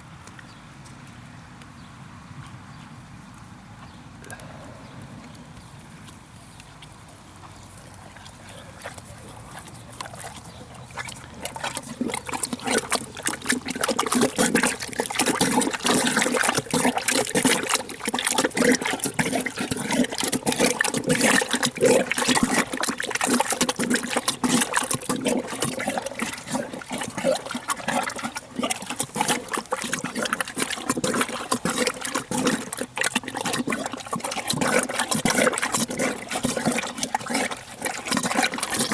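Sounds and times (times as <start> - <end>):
horse slurping and chewing: 3.8 - 38.9.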